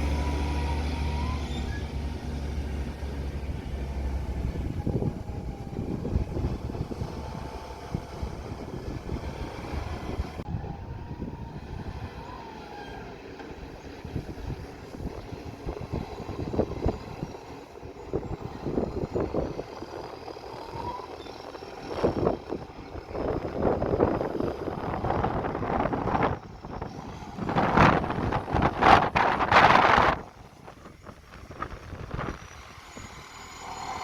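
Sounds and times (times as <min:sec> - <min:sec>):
garbage truck engine rumbling: 0:00.0 - 0:34.0.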